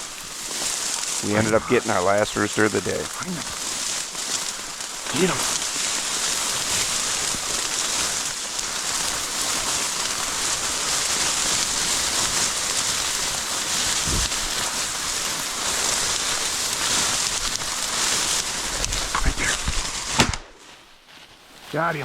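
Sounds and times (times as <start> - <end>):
dry grass rustling: 0.0 - 22.0.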